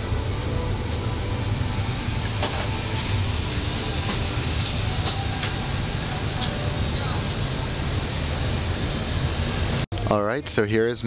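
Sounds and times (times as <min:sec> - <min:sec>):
cabin ventilation hum and rushing air: 0:00.0 - 0:10.0.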